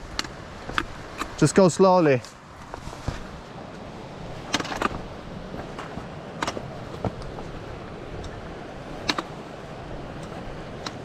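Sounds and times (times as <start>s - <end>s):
footsteps on loose rocks: 0.0s - 1.5s, 2.2s - 11.0s
steady rushing noise: 0.0s - 11.0s.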